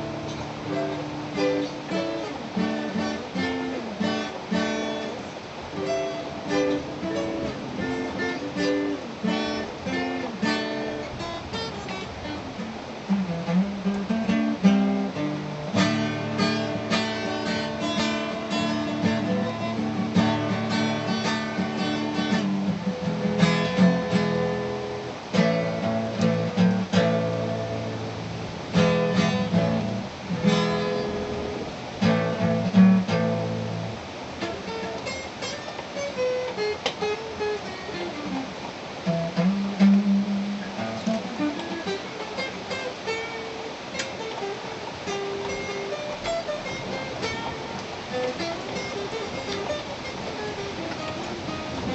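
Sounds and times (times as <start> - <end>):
acoustic guitar playing: 0.0 - 51.9.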